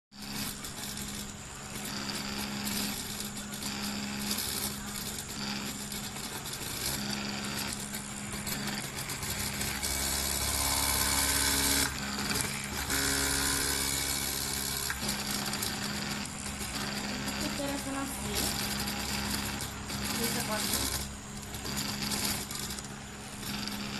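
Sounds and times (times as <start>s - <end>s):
stepper motors whining and buzzing: 0.1s - 23.9s.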